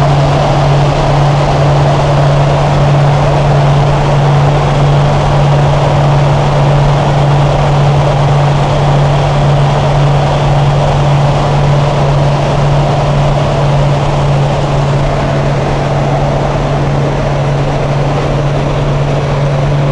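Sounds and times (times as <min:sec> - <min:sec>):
propeller aircraft engine droning: 0:00.0 - 0:19.9
rushing air noise: 0:00.0 - 0:19.9.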